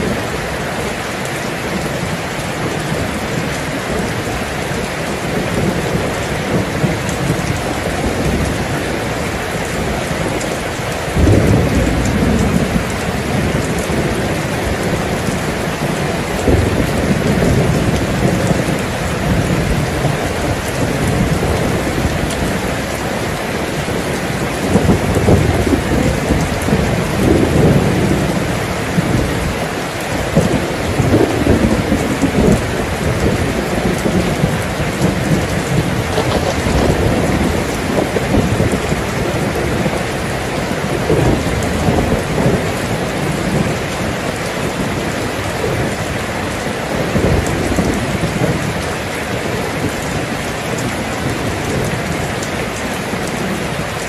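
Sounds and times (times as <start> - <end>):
heavy rain pouring: 0.0 - 54.0
thunder rumbling: 0.0 - 54.0.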